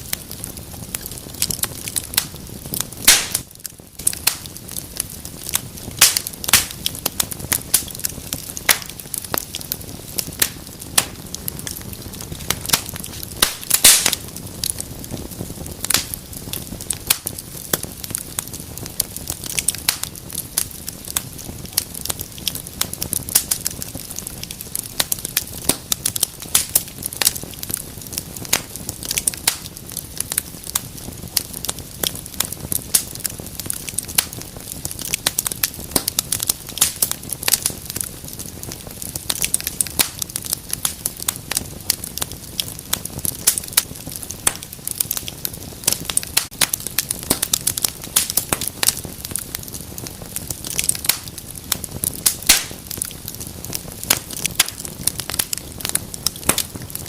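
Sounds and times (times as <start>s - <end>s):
low hiss of burning: 0.0s - 57.0s
wood fire crackling and popping: 0.0s - 57.0s.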